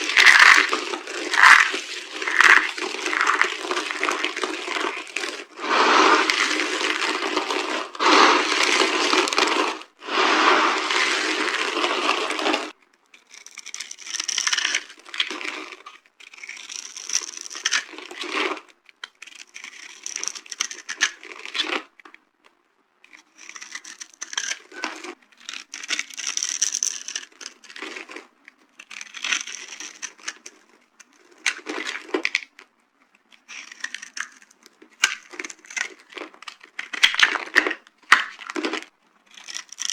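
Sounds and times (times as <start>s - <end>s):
soap cubes crunching: 0.0s - 21.9s, 23.1s - 28.2s, 28.8s - 32.6s, 33.4s - 39.9s.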